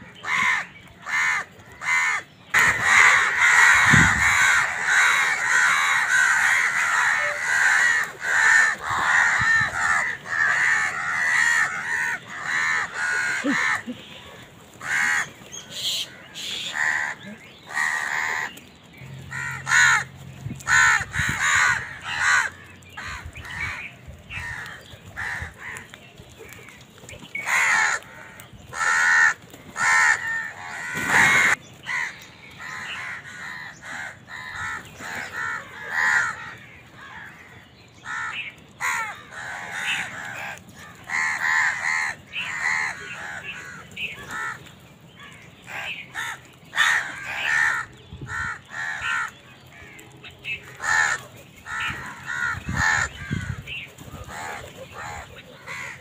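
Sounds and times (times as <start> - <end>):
crows cawing: 0.0 - 18.6, 19.2 - 56.0.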